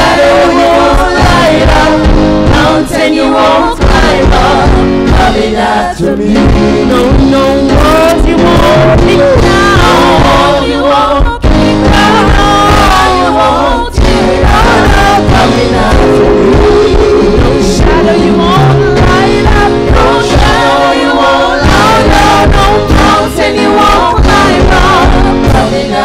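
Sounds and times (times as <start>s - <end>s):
musical backing: 0.0s - 26.0s
people singing gospel song: 0.0s - 26.0s.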